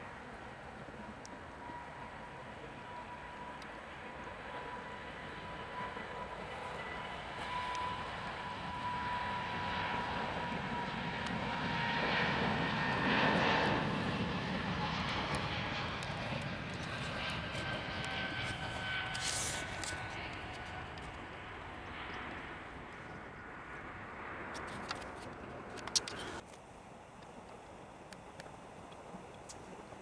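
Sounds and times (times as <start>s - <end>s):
airliner engines passing: 0.0s - 30.0s
thin engine whine: 0.2s - 26.4s.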